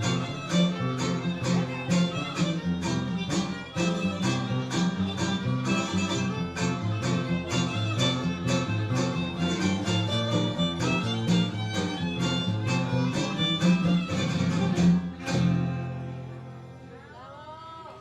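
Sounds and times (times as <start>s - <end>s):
violin and strummed guitars playing: 0.0s - 17.0s.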